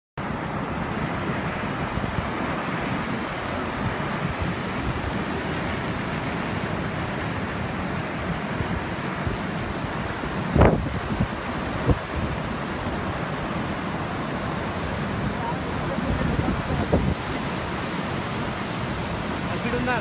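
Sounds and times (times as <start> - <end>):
water rushing down spillway: 0.2 - 20.0
wind buffeting microphone: 0.4 - 20.0.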